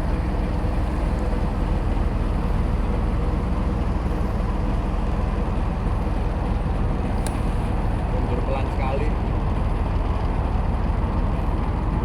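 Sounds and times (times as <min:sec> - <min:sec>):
ship engine rumbling: 0:00.0 - 0:12.0.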